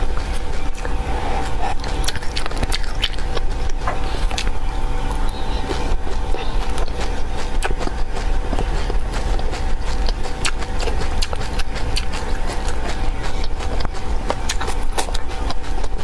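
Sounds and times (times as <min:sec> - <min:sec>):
crunchy chewing of seeds: 0:00.0 - 0:16.0
low rumble: 0:00.0 - 0:16.0.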